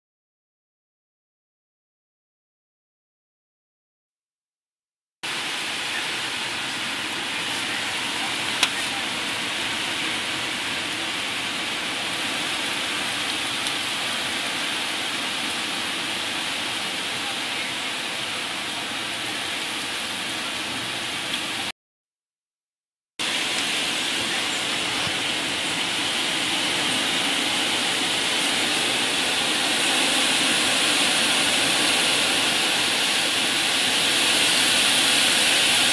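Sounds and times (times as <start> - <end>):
heavy rain pouring: 5.2 - 21.7, 23.2 - 35.9.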